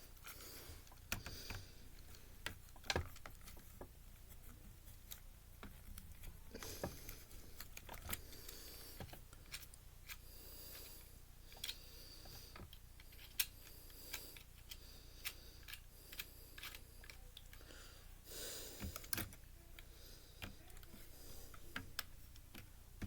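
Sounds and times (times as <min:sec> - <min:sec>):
small parts clicking and rattling: 0:00.1 - 0:17.7, 0:18.8 - 0:23.0.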